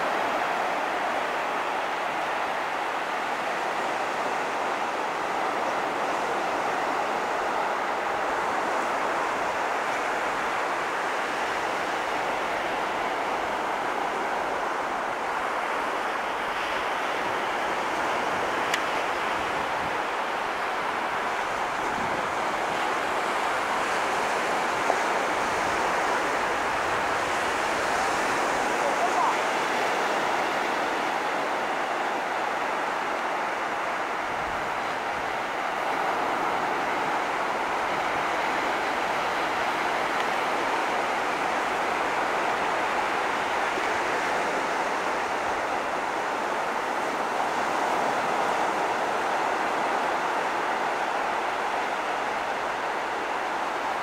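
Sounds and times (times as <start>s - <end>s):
sea surf washing ashore: 0.0s - 54.0s
waves breaking on beach: 0.0s - 54.0s.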